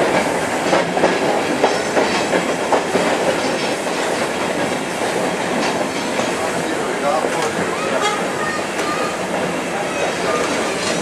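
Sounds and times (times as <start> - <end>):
train car rumble and rattle: 0.0 - 11.0
wheels clacking over rail joints: 0.0 - 11.0.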